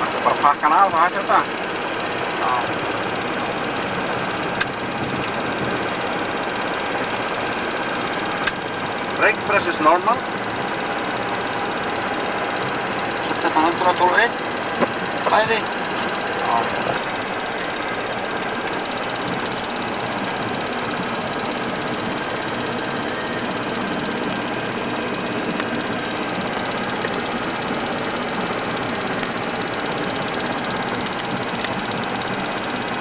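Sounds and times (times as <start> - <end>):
faint steady whine: 0.0 - 33.0
turbine and airflow noise: 0.0 - 33.0.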